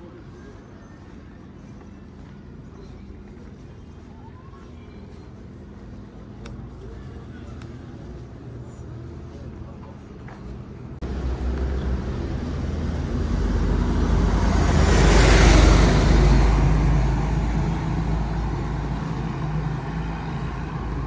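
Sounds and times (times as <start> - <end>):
truck engine hum: 0.0 - 21.0.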